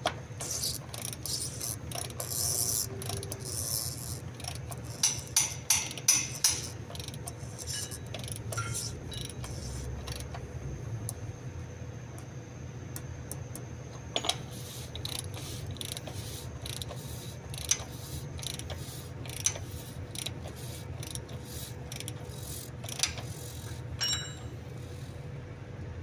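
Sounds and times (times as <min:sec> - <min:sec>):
steady low hum: 0:00.0 - 0:26.0
ratchet wrench clicking: 0:00.3 - 0:10.4, 0:14.2 - 0:25.2.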